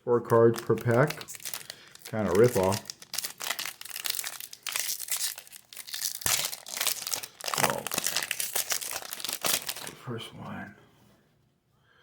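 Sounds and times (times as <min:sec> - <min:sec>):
wrapper being torn and crinkled: 0:00.1 - 0:09.9.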